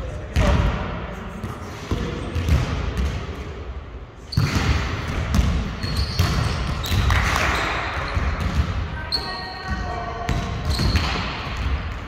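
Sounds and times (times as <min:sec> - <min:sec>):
basketballs bouncing on court: 0:01.4 - 0:03.4, 0:04.3 - 0:12.0.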